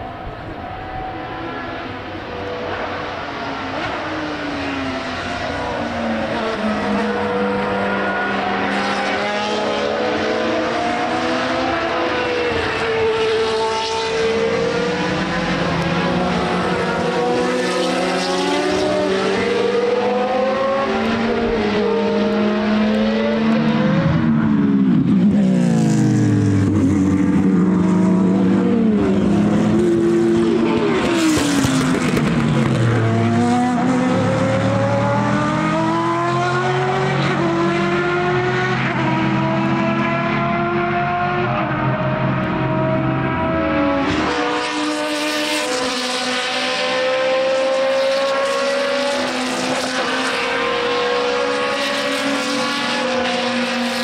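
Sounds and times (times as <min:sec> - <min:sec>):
racing car engines revving: 0:00.0 - 0:54.0
racing car passing close: 0:00.2 - 0:54.0.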